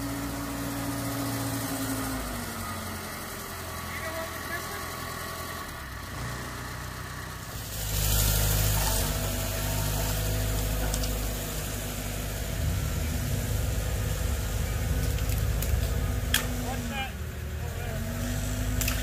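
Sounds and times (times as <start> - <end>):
heavy equipment engine humming: 0.0 - 19.0.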